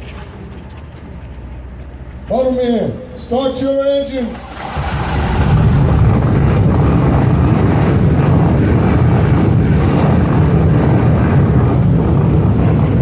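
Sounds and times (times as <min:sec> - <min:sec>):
motorcycle engines rumbling: 0:00.9 - 0:13.0.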